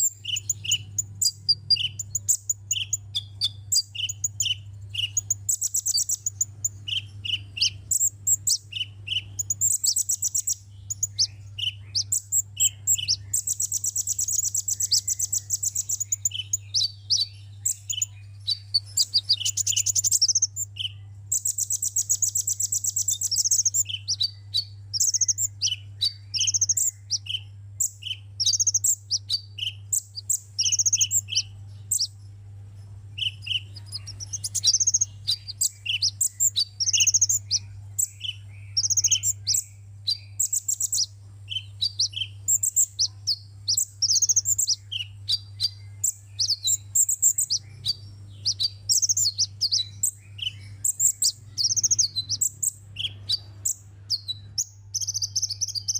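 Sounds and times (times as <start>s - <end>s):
bird trills and chirps: 0.0s - 55.9s
steady low hum: 0.0s - 55.9s.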